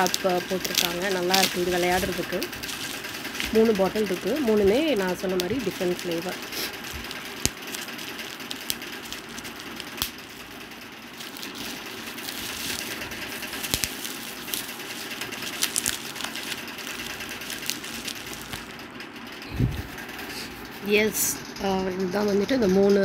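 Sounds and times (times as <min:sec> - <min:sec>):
bubble wrap clicks: 0:00.0 - 0:18.8
bubble wrap crinkling: 0:00.0 - 0:18.9.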